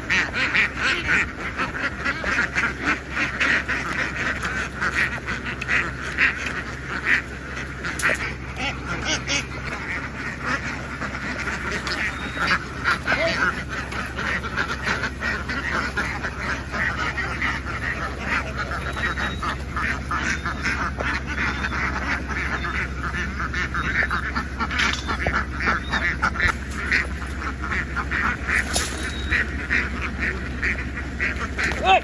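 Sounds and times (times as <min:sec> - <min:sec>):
ducks quacking: 0:00.0 - 0:32.0.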